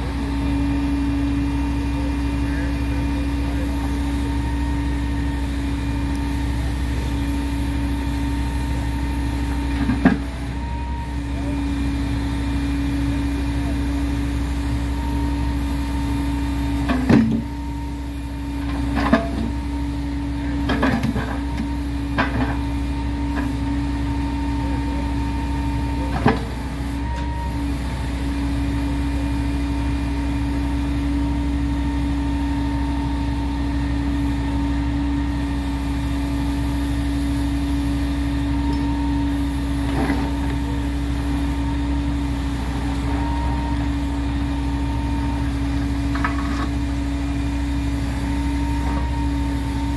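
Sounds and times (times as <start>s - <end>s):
track machine engine running: 0.0s - 49.9s.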